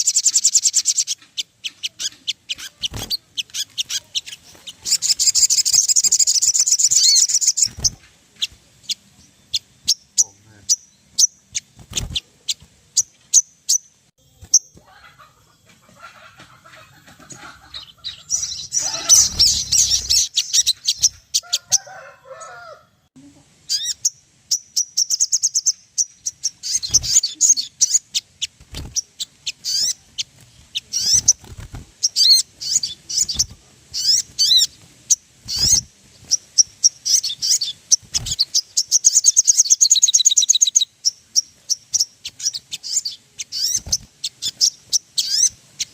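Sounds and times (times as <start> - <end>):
birds chirping and trilling: 0.0 - 22.9, 23.6 - 45.9.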